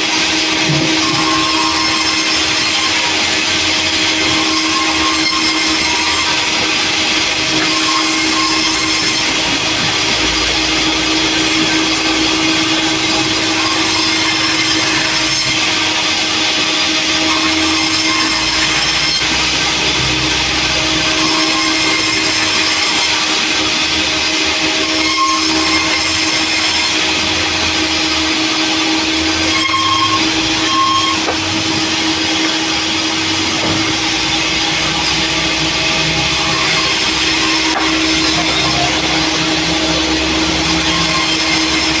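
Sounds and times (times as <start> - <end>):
sawmill saw humming and whining: 0.0 - 42.0.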